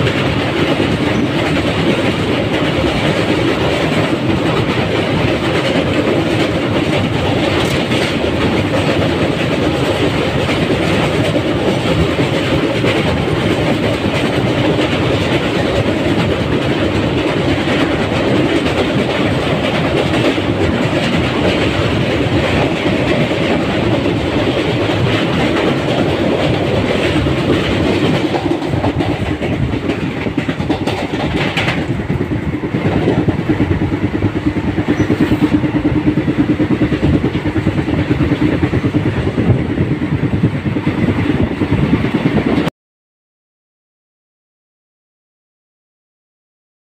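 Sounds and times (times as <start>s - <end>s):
train wheels clattering on rails: 0.0s - 42.7s.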